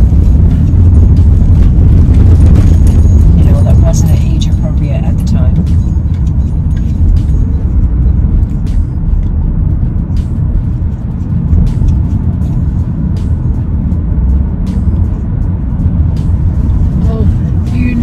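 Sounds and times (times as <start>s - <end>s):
car cabin road and wind rumble: 0.0s - 18.0s.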